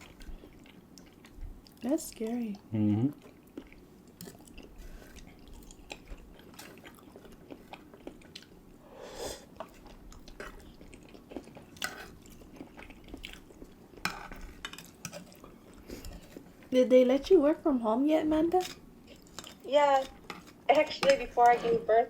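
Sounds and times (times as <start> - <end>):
people chewing food: 0.0 - 17.6, 18.2 - 21.7.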